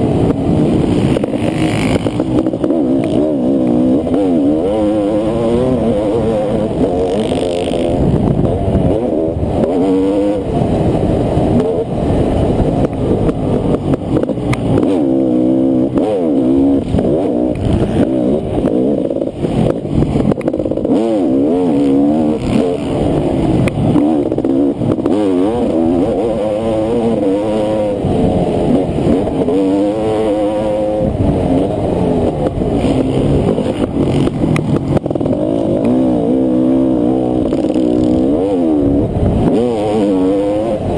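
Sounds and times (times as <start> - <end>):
motocross engine racing: 0.0 - 40.9.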